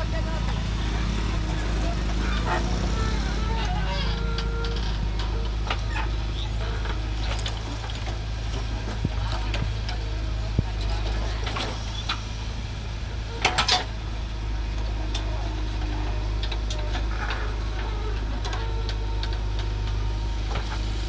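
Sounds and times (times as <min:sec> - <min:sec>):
diesel engine drone: 0:00.0 - 0:21.0.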